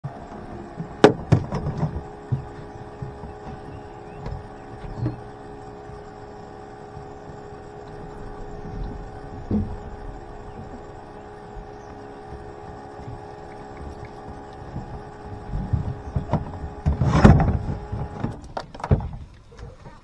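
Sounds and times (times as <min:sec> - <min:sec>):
steady mechanical hum: 0:00.0 - 0:20.0
thumps in aluminum boat: 0:00.3 - 0:06.2, 0:06.9 - 0:20.0.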